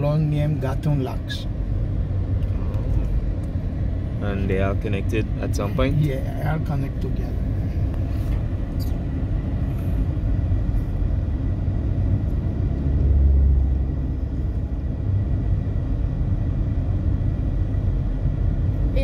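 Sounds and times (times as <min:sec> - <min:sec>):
car engine rumble inside cabin: 0:00.0 - 0:19.0.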